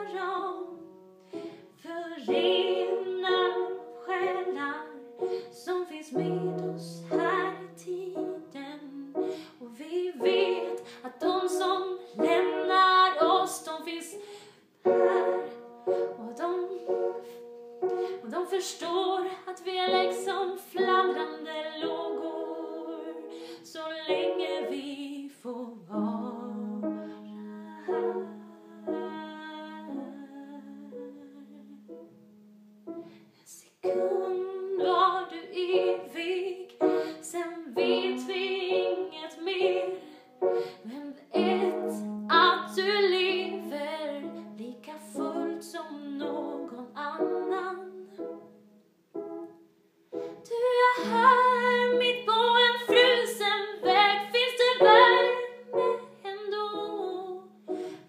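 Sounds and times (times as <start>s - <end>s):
woman singing wordless melody: 0.0s - 48.8s, 50.2s - 58.0s.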